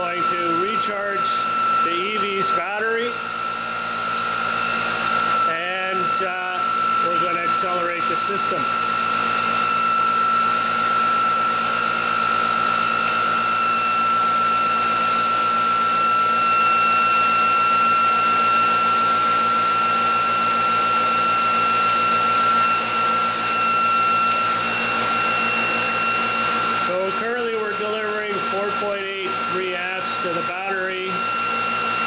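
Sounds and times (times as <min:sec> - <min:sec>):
electric motor whine: 0:00.0 - 0:32.0.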